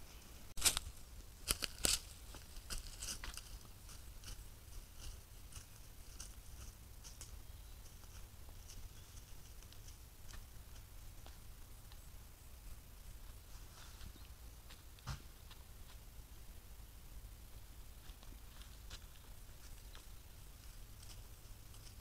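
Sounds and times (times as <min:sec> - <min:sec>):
deer footsteps in dry leaves: 0:00.6 - 0:16.1, 0:17.9 - 0:22.0.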